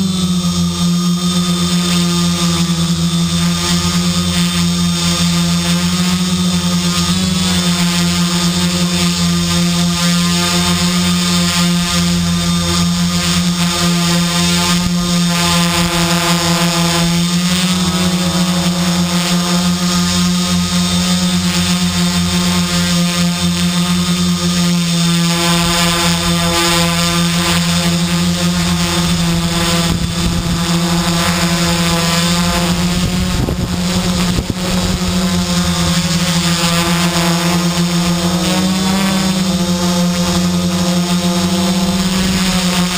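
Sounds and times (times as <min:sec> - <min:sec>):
drone motors buzzing: 0:00.0 - 0:42.9.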